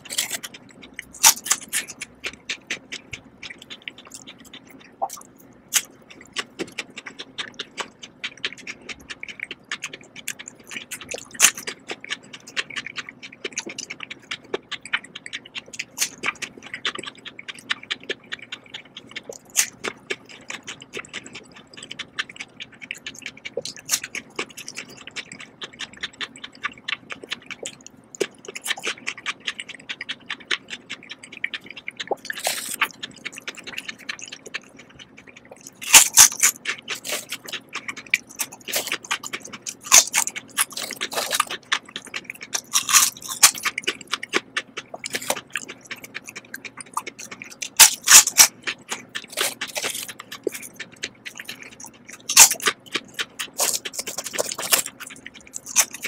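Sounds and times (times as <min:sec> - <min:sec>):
chewing wet crunches: 0:00.0 - 0:56.0.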